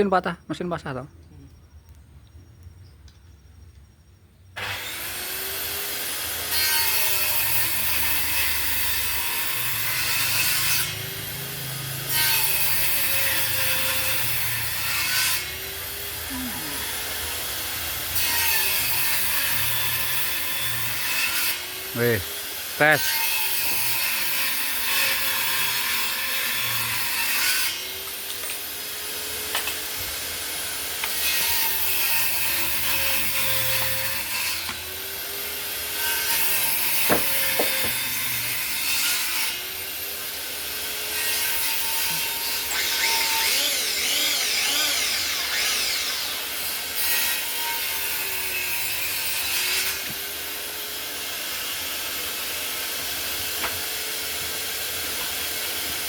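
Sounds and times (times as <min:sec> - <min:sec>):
electric wood planer cutting: 0:04.6 - 0:56.0.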